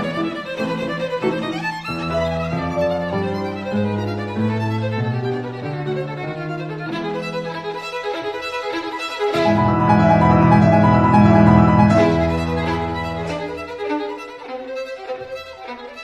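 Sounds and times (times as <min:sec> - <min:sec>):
bowed string background music: 0:00.0 - 0:16.0.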